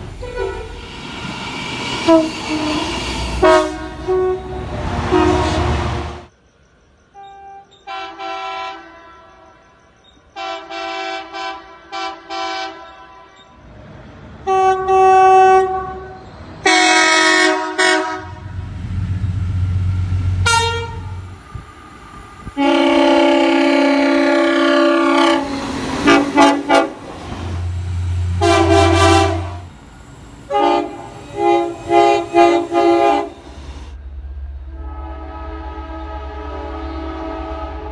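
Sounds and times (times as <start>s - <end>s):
passing train rumble: 0.0s - 6.3s, 13.6s - 37.9s
train horn blasts: 0.0s - 6.3s, 7.2s - 9.7s, 10.4s - 13.4s, 14.5s - 34.0s, 34.6s - 37.9s.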